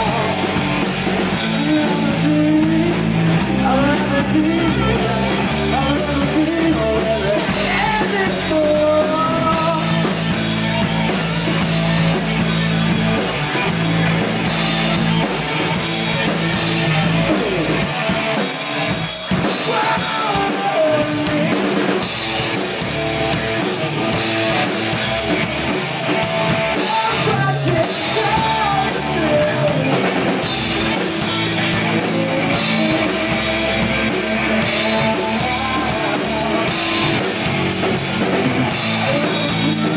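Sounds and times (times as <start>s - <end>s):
singer: 0.0s - 10.9s, 16.9s - 22.3s, 23.9s - 39.9s
bass guitar: 0.0s - 39.9s
drum kit: 0.0s - 39.9s
electric guitars: 0.0s - 39.9s.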